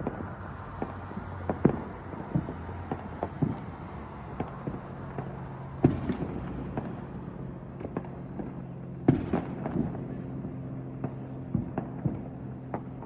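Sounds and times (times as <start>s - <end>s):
distant fireworks bangs and pops: 0.0s - 13.0s.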